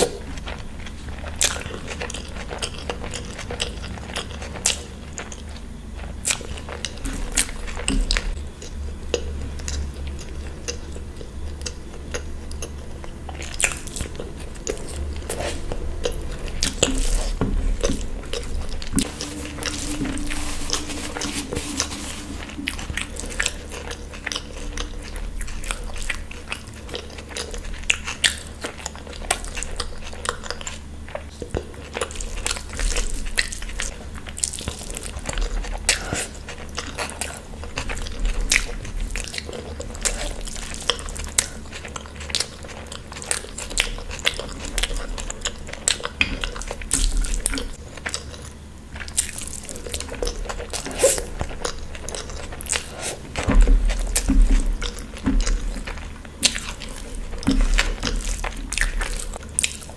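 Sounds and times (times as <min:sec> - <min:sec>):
biting and chewing food: 0:00.0 - 0:59.9
steady low hum: 0:00.0 - 0:59.9.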